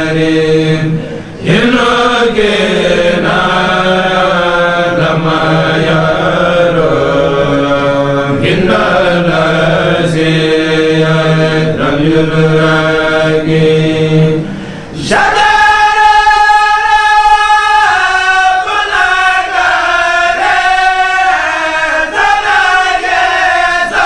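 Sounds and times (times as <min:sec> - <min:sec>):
group of men chanting: 0:00.0 - 0:24.0.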